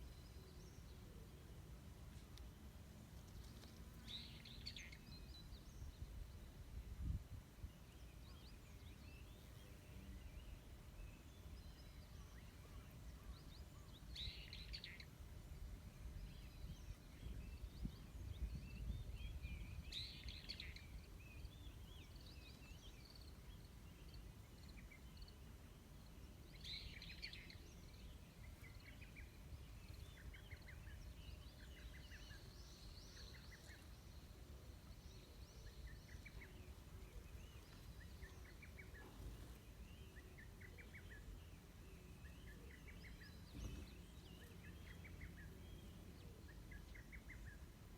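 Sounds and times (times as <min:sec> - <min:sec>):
birds chirping: 0:07.8 - 0:47.8.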